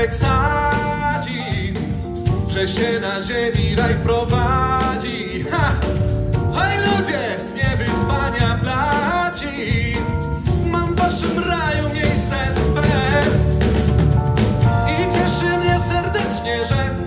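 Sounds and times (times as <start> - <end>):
man singing: 0.0 - 13.8, 14.7 - 17.0
bass: 0.0 - 17.0
drum kit: 0.0 - 17.0
piano: 0.0 - 17.0.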